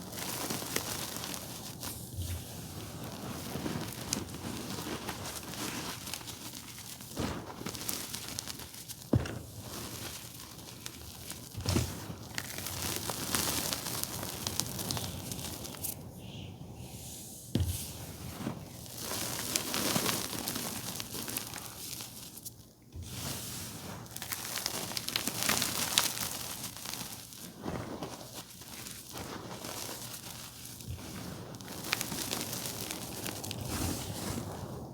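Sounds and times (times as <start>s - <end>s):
chalk crunching and crumbling: 0.0s - 34.9s.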